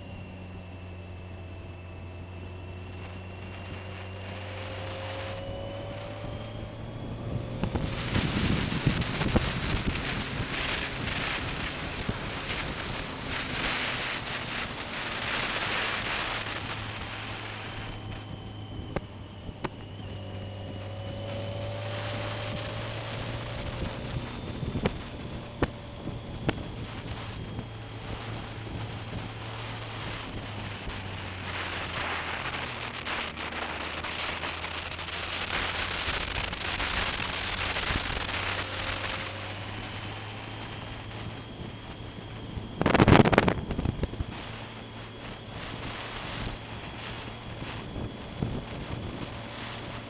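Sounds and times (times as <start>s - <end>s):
motorcycle engine running: 0.0s - 50.0s
wind rushing over microphone: 0.0s - 50.0s.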